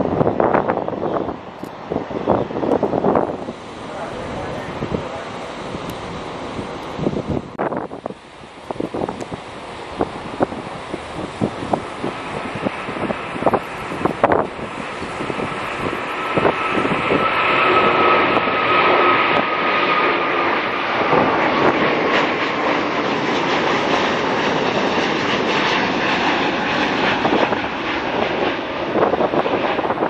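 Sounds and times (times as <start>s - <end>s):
high fan whine: 0.0s - 19.6s, 23.2s - 30.0s
jet roar: 0.0s - 30.0s.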